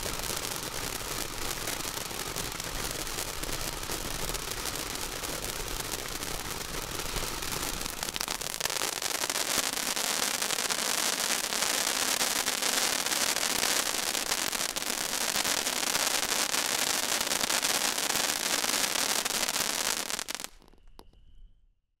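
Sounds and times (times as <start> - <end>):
firework fountain hissing and crackling: 0.0 - 21.2.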